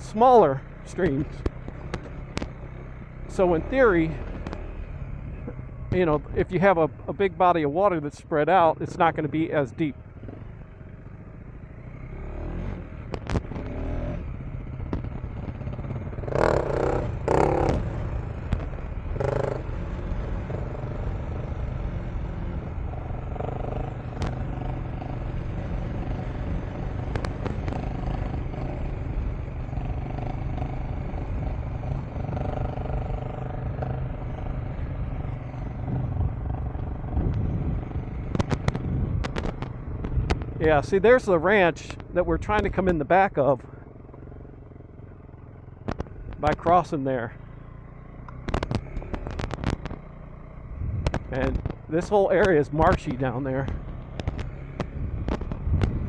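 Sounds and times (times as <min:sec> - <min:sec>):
motorcycle engine running: 0:00.0 - 0:56.0
knocks and clatter from trail: 0:00.8 - 0:07.2, 0:11.9 - 0:56.0.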